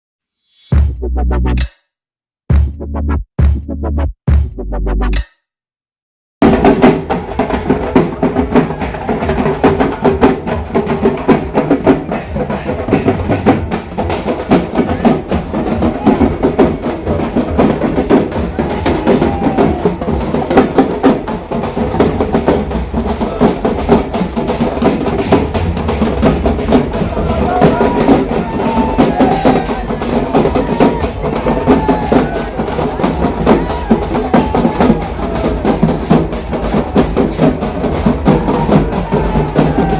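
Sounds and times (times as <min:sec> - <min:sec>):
fast dense drumming music: 0:00.7 - 0:01.6, 0:02.5 - 0:05.2, 0:06.4 - 0:39.9.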